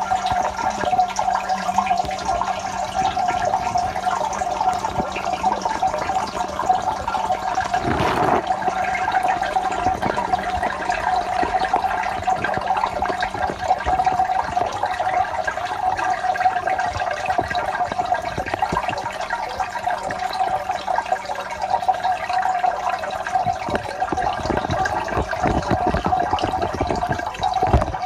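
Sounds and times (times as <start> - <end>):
faint steady hum: 0.0 - 28.0
water splashing and bubbling: 0.0 - 28.0.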